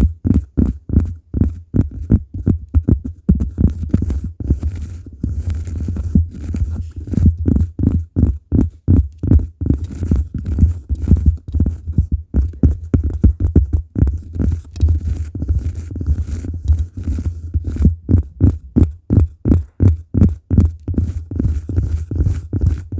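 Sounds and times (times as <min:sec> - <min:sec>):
fingertips tapping on cork: 0:00.0 - 0:22.9.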